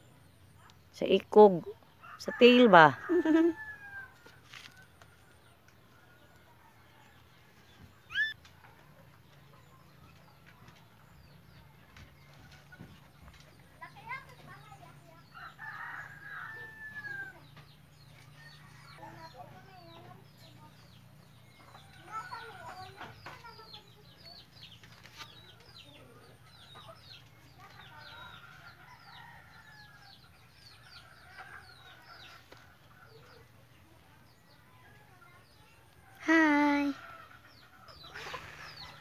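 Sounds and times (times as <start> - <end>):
birds chirping: 4.7 - 39.0.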